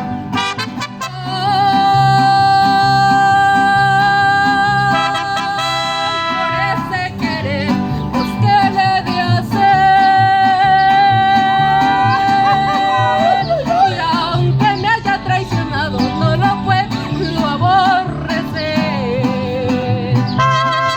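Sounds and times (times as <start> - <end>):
held melody notes: 0.0 - 20.9
strummed guitar rhythm: 0.0 - 20.9.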